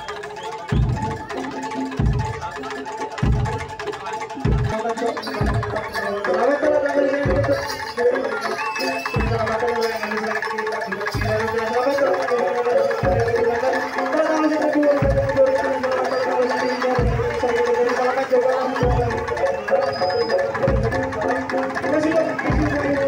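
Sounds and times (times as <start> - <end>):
hand-drum patterns: 0.0 - 23.0
wavering melody line: 0.0 - 23.0.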